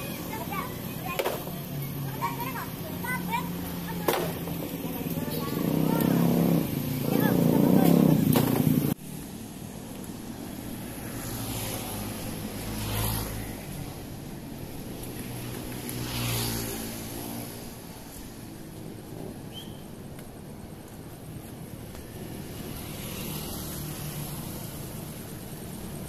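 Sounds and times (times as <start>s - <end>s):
vehicles passing by: 0.0s - 26.0s.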